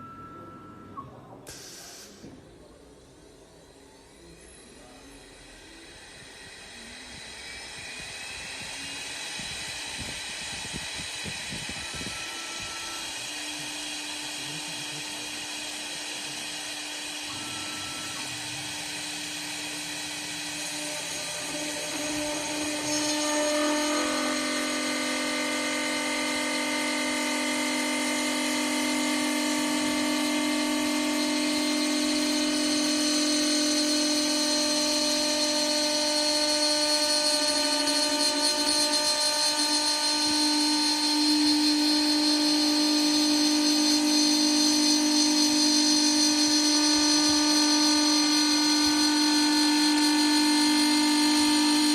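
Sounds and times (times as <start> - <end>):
wood lathe machine whine: 0.0 - 1.9, 2.6 - 51.9.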